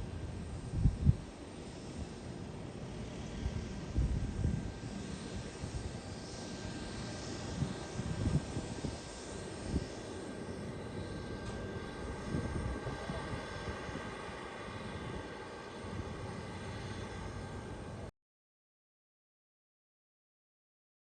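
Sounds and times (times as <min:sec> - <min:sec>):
airliner engines roaring: 0:00.0 - 0:18.1.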